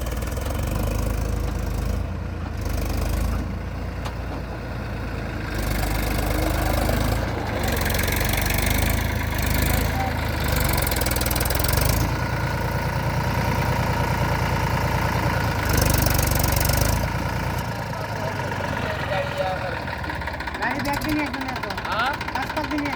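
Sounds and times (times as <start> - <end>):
tractor diesel engine under load: 0.0 - 22.9.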